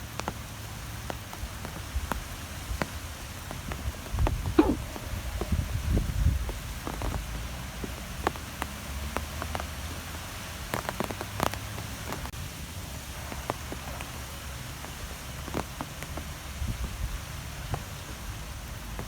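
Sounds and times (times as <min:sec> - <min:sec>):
wind hiss and rumble: 0:00.0 - 0:19.0.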